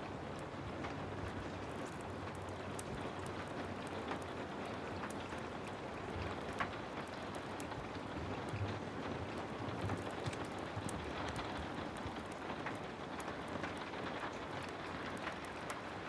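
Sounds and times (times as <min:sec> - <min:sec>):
fireplace fire crackling: 0:00.0 - 0:16.0
heavy rain falling: 0:00.0 - 0:16.0.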